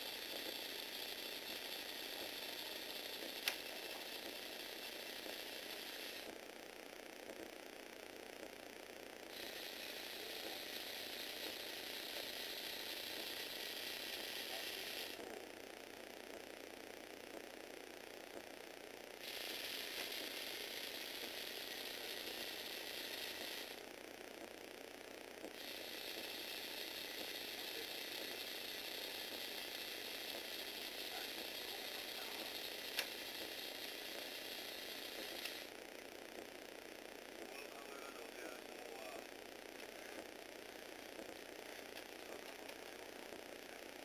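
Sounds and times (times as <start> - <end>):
toy motor and plastic gears whirring: 0.0 - 6.5, 9.2 - 15.6, 18.2 - 24.6, 25.3 - 44.0.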